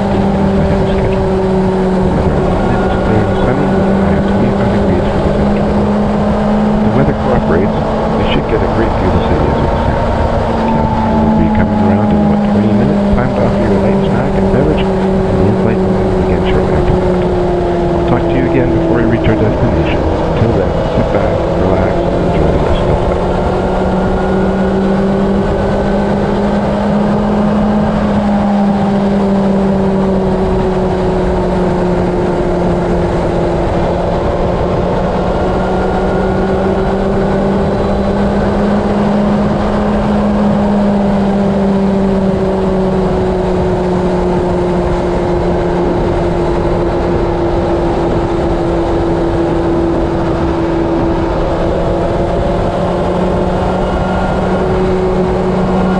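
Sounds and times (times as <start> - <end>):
constant rushing noise: 0.0 - 55.9
engine drone: 0.0 - 55.9.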